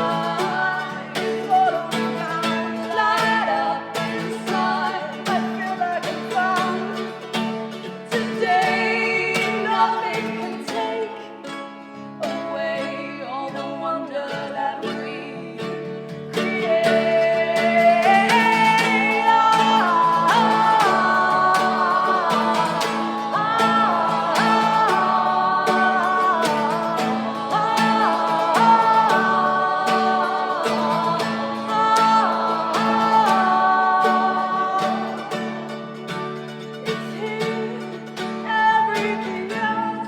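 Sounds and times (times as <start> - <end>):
strummed acoustic guitar: 0.0 - 40.0
two voices singing in harmony: 0.0 - 40.0.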